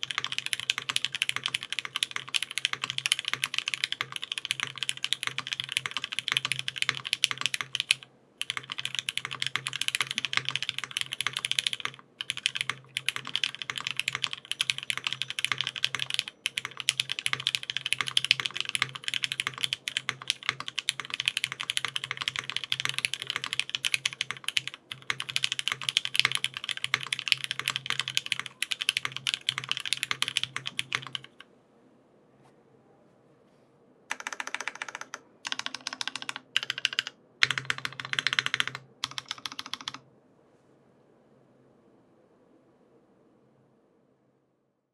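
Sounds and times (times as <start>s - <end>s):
fast typing on mechanical keyboard: 0.0s - 31.4s, 34.1s - 40.0s.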